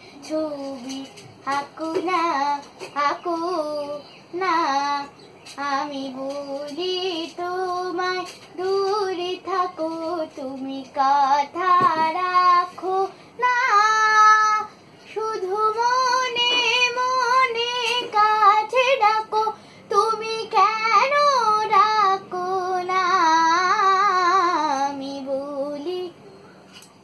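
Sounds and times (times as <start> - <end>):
girl singing unaccompanied: 0.0 - 26.7.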